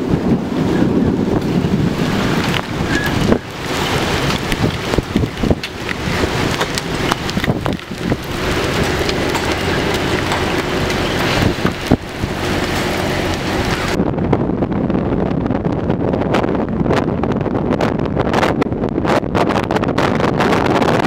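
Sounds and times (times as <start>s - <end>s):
heavy rain pelting down: 0.0s - 19.0s
wind buffeting microphone: 0.0s - 21.0s.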